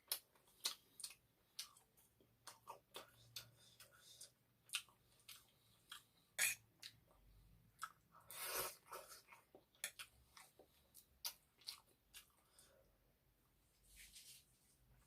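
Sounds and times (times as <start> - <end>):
quiet chewing: 0.0 - 13.6.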